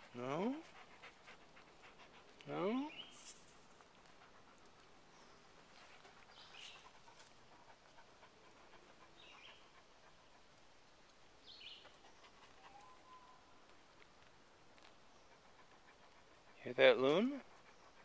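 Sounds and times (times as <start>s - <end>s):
dog panting: 0.0s - 3.1s, 3.7s - 10.9s, 11.8s - 13.0s, 15.0s - 18.0s.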